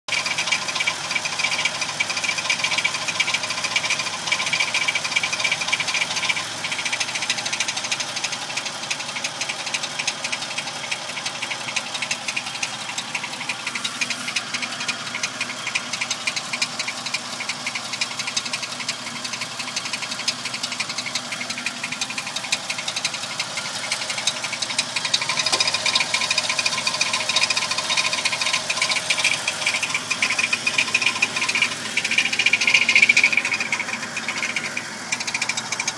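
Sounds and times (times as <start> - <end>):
fast steady rattle: 0.1 - 35.9
truck engine running: 0.1 - 35.9.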